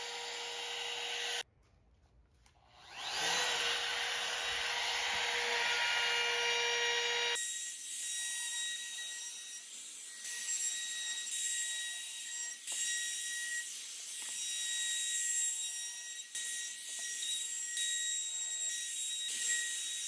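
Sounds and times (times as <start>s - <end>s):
router cutting wood: 0.0s - 1.4s, 2.7s - 20.0s.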